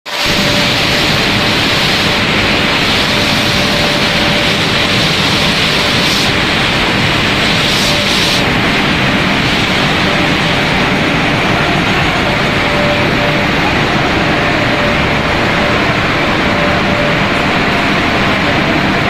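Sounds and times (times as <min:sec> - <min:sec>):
loud steady machinery noise: 0:00.1 - 0:19.0.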